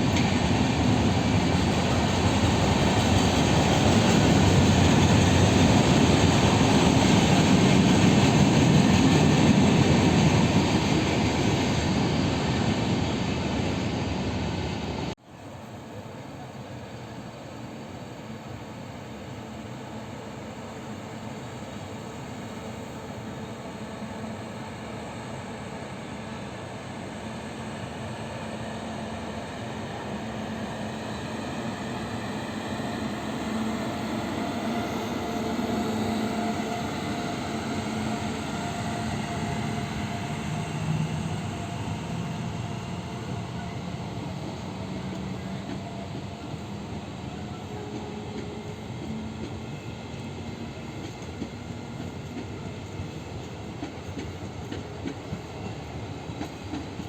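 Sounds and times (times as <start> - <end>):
train rumbling along track: 0.0 - 57.0.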